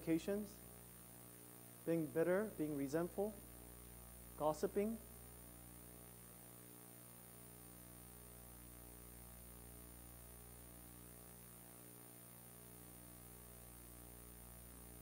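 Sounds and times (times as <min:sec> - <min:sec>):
electrical mains hum: 0:00.0 - 0:15.0
faint hiss: 0:00.0 - 0:15.0.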